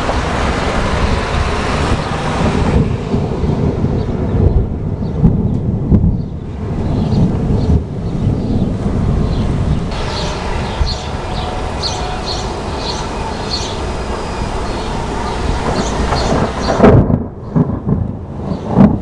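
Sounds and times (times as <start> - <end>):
thunder rumbling: 0.0 - 19.0
wind buffeting microphone: 0.0 - 19.0.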